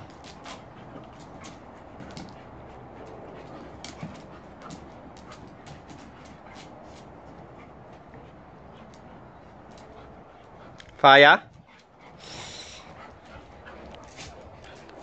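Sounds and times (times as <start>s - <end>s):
dogs scuffling: 0.0s - 10.8s, 11.5s - 15.0s.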